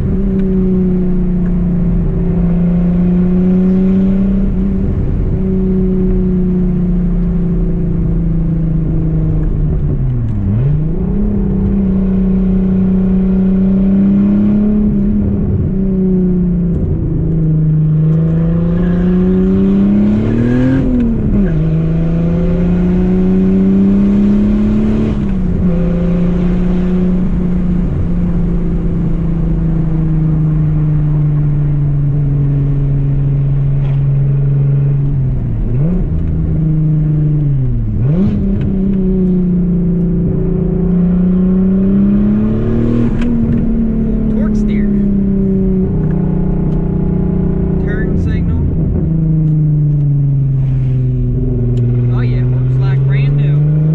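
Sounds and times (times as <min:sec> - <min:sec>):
car engine driving and shifting gears: 0:00.0 - 0:53.9.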